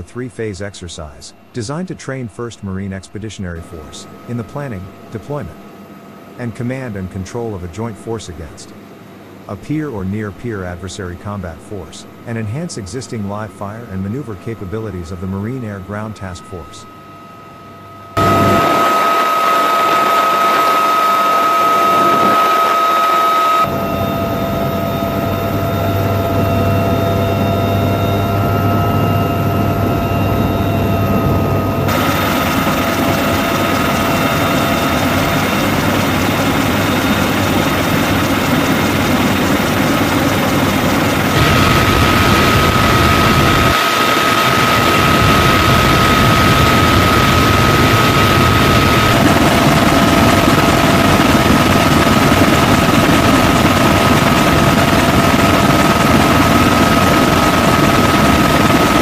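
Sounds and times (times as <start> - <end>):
helicopter engines and rotor: 0.0 - 59.0.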